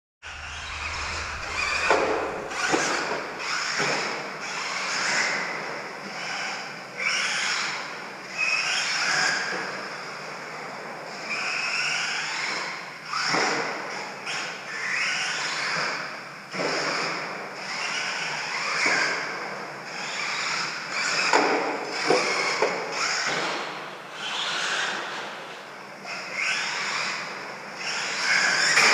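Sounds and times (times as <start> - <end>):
rc truck motor whine: 0.2 - 25.4, 26.0 - 28.9.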